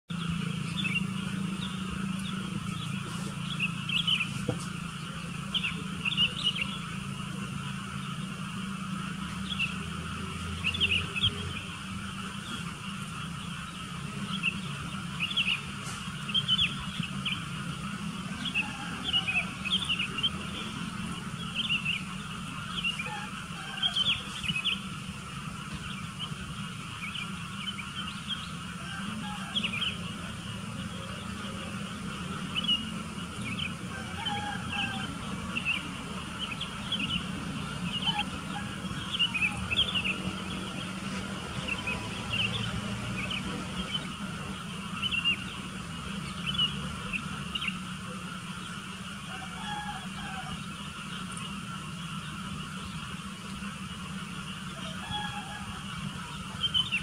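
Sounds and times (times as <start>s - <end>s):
birds chirping: 0.1s - 57.0s
steady low hum: 0.1s - 57.0s.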